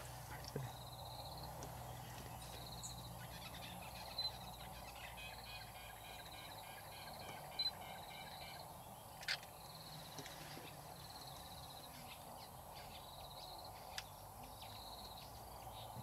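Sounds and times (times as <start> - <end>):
rapid chirping chorus: 0.0 - 16.0.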